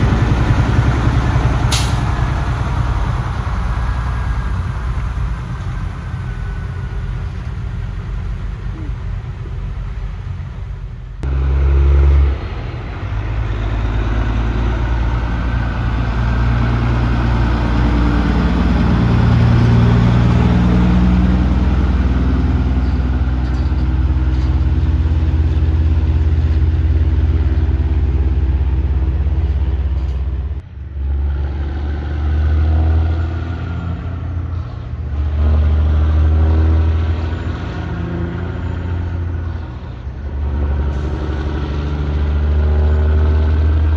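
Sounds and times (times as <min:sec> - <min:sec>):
truck diesel engine running: 0:00.0 - 0:31.7, 0:33.6 - 0:43.9.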